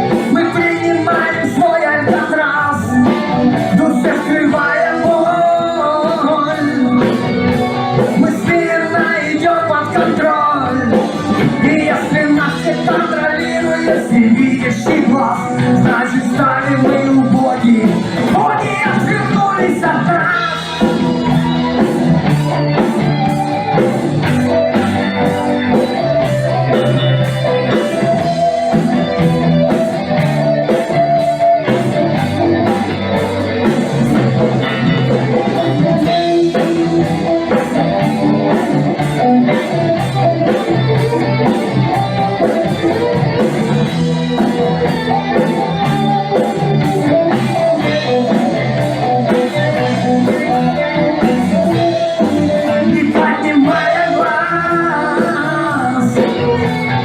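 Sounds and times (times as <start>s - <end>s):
bass guitar: 0.0s - 57.0s
drums beating: 0.0s - 57.0s
guitar: 0.0s - 57.0s.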